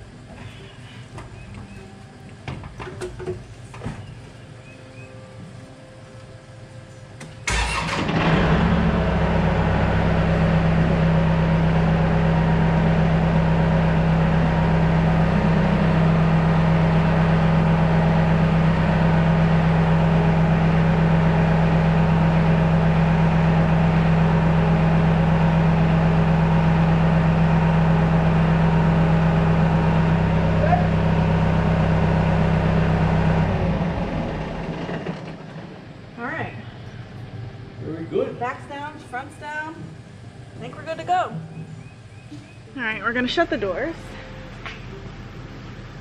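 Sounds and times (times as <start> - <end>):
tractor engine starting and running: 6.2 - 37.7, 38.7 - 46.0.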